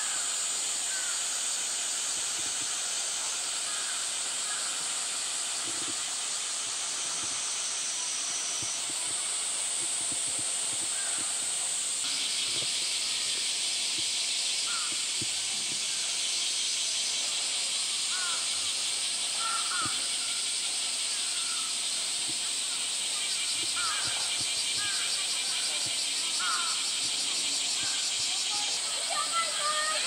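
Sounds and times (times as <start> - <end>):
cicada chorus droning: 0.0 - 30.0
pulsing insect buzz: 0.0 - 30.0.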